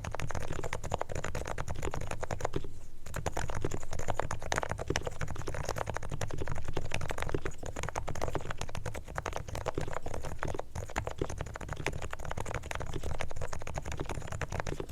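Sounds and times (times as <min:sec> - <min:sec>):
fast keyboard typing: 0:00.0 - 0:14.9
steady low hum: 0:00.0 - 0:14.9.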